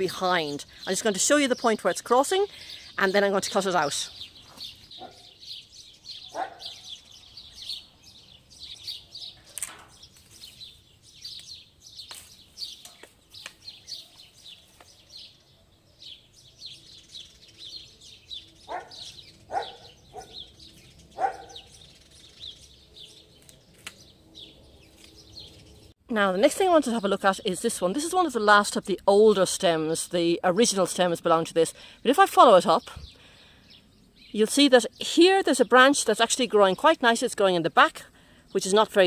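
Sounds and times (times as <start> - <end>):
small songbirds chirping: 0.0 - 39.0.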